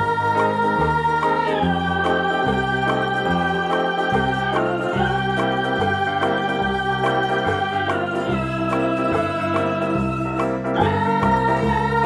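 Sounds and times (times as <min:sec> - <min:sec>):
keyboard instrumental music: 0:00.0 - 0:12.0.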